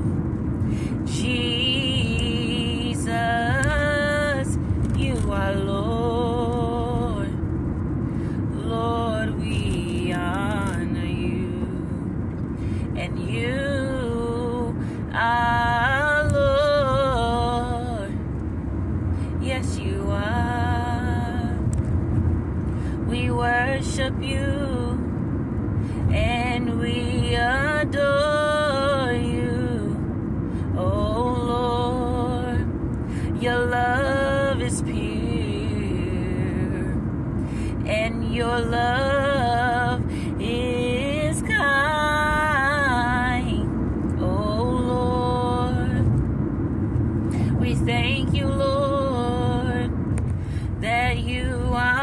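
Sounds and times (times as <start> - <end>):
car road noise rumble: 0.0 - 52.0
woman singing worship melody: 0.8 - 7.4, 8.2 - 12.0, 12.6 - 18.2, 19.2 - 21.6, 22.8 - 25.1, 26.0 - 46.0, 47.3 - 52.0.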